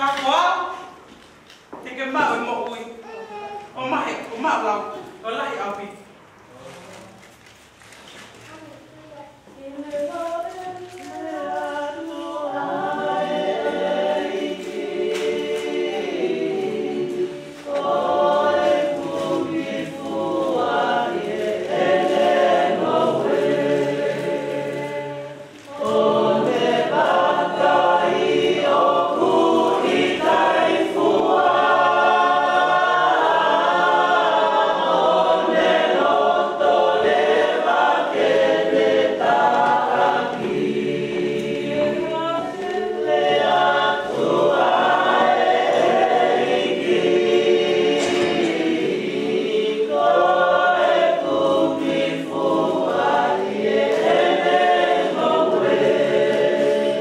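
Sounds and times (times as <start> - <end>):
choir singing: 9.7 - 57.0.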